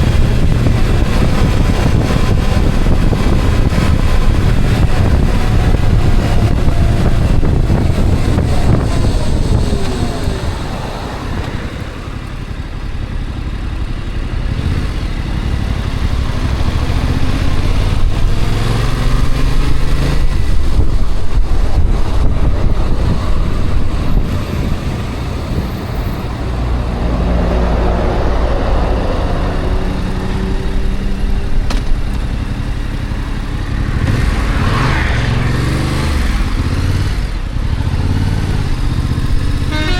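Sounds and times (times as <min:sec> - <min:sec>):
road noise: 0:00.0 - 0:39.9
vehicle engine driving: 0:00.0 - 0:39.9.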